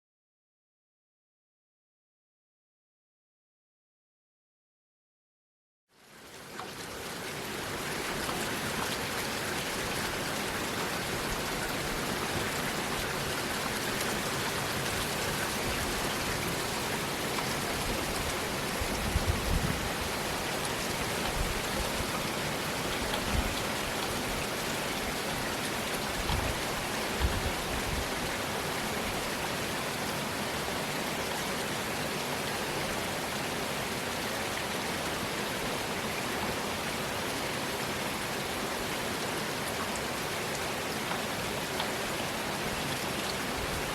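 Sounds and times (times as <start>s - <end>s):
steady rain: 5.9s - 43.9s.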